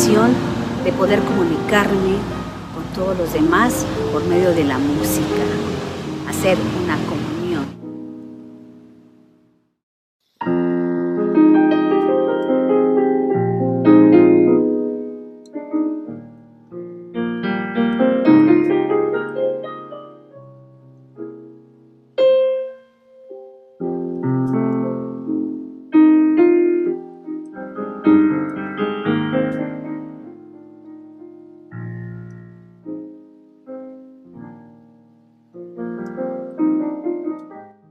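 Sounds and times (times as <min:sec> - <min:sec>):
slow piano chords: 0:00.0 - 0:09.7, 0:10.4 - 0:37.9.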